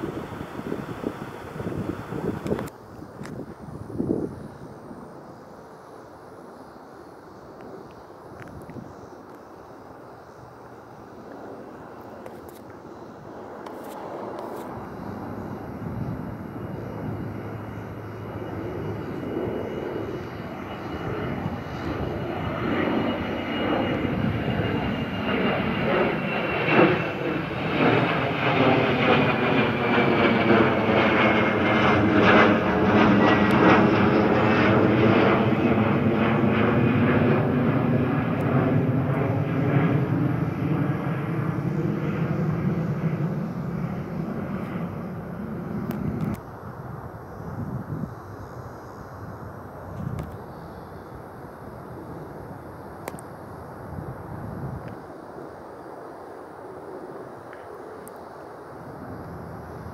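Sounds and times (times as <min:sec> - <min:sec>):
high engine whine: 0:00.0 - 0:59.9
jet engine roar: 0:00.0 - 0:59.9.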